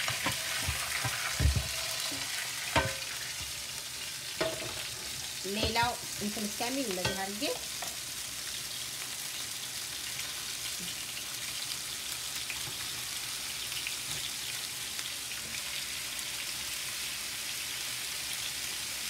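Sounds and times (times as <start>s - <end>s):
chicken sizzling in a skillet: 0.0s - 19.0s.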